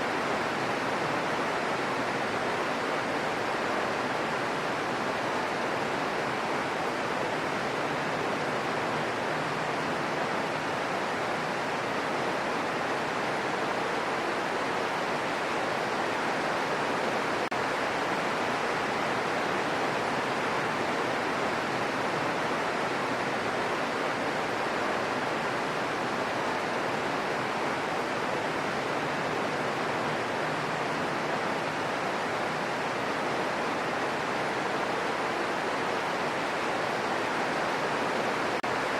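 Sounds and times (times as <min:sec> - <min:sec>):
gentle rain in forest: 0:00.0 - 0:38.9.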